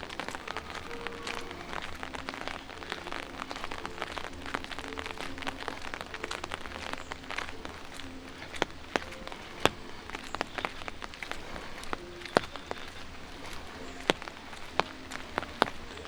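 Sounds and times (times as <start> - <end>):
rain hiss: 0.0 - 16.0
raindrops pattering on hard surfaces: 0.0 - 16.0.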